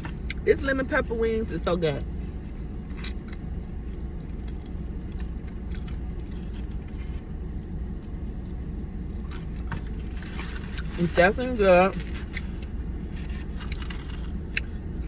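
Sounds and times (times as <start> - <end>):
chewing crispy food: 0.0 - 0.5, 2.0 - 15.0
steady low rumble: 0.0 - 15.0.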